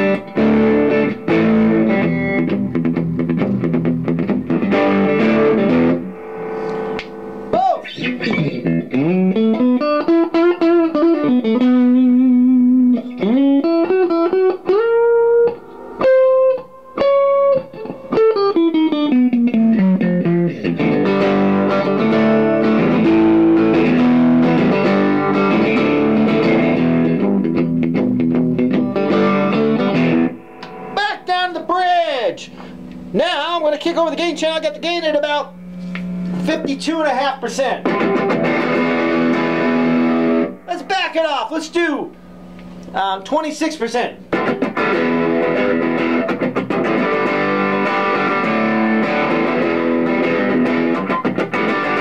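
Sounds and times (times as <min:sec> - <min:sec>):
electric guitar strumming chords: 0:00.0 - 0:43.0, 0:44.1 - 0:52.0
electric guitar lead lines: 0:00.0 - 0:52.0.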